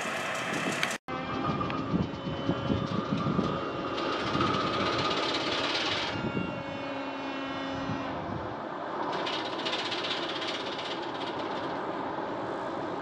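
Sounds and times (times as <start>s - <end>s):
diesel engine whine and rumble: 0.0s - 13.0s.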